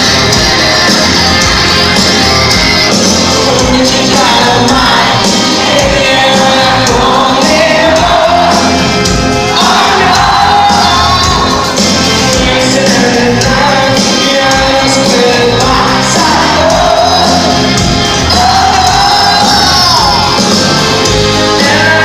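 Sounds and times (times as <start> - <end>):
drums: 0.0 - 22.0
guitars: 0.0 - 22.0
rock band playing: 0.0 - 22.0.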